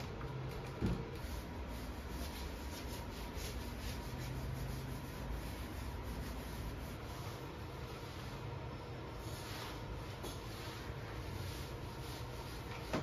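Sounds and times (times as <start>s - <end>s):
cloth rubbing on wooden door: 0.0s - 13.0s.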